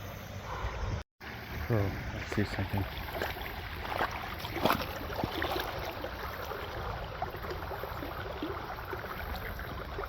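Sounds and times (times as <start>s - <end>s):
water sloshing and splashing: 0.5s - 10.0s.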